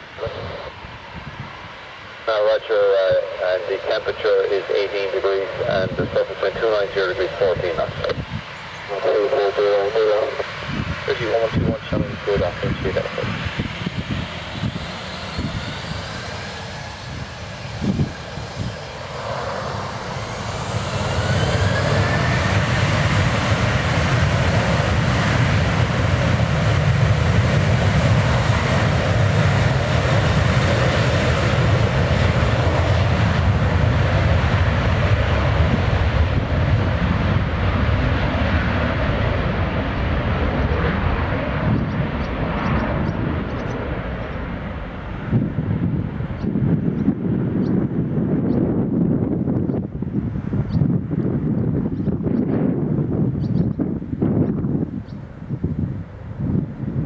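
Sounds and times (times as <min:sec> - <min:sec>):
jet engines spooling up: 0:00.0 - 0:55.5.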